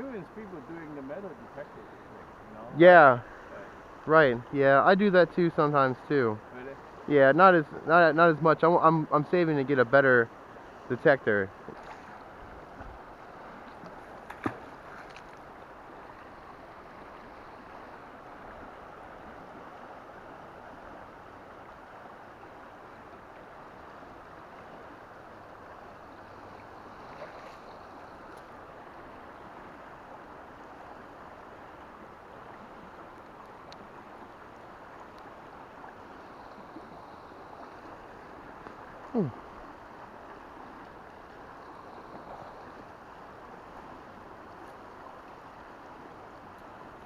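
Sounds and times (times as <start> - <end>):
flowing river water: 0.0 - 47.0.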